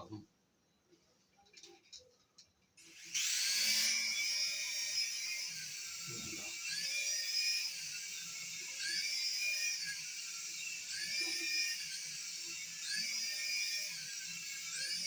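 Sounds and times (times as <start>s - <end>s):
toy helicopter high-pitched whine: 2.8s - 15.0s.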